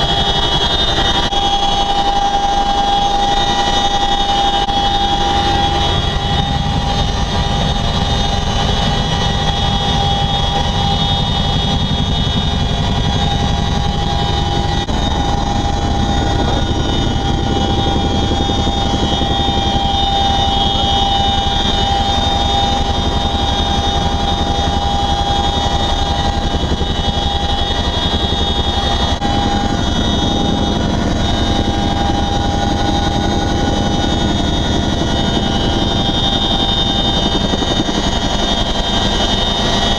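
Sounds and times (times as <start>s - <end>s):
helicopter rotors and engines: 0.0s - 39.9s
high whining tones: 0.0s - 39.9s.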